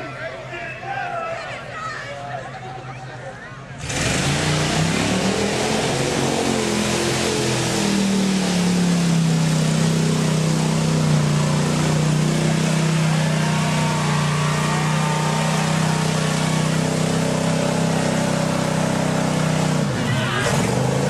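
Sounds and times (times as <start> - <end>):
truck engine revving high: 3.7 - 21.0.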